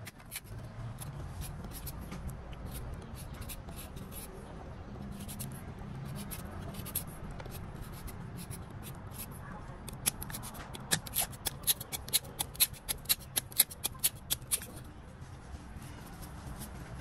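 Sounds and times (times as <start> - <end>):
knife scraping fruit skin: 0.0 - 4.4, 5.1 - 14.8.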